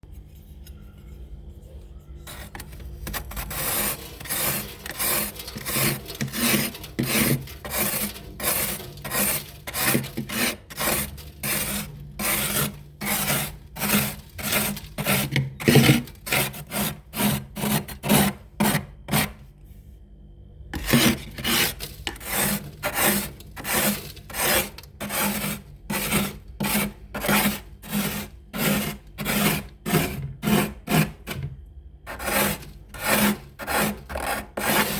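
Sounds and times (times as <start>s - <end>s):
ice being scraped: 2.3s - 19.4s, 20.8s - 34.9s.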